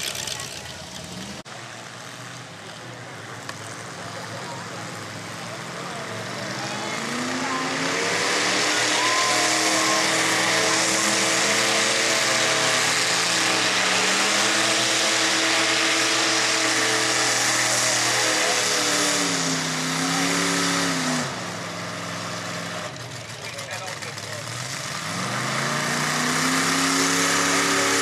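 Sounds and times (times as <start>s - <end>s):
engine running at high revs: 2.8s - 28.0s.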